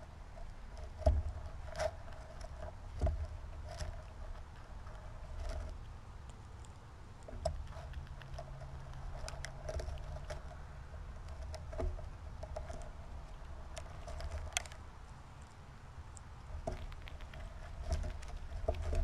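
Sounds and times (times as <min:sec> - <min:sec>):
low steady rumble: 0:00.0 - 0:19.0
squirrel picking through birdseed: 0:00.0 - 0:19.0.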